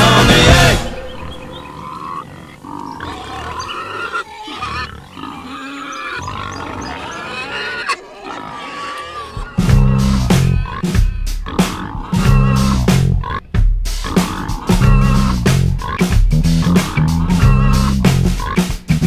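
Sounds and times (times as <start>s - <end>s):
animal wavering cries: 0.6s - 18.6s.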